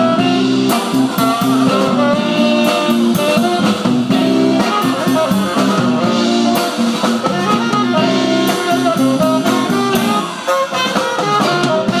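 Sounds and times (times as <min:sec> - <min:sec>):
bass: 0:00.0 - 0:12.0
drum kit with cymbal hits: 0:00.0 - 0:12.0
saxophone melody: 0:00.0 - 0:12.0.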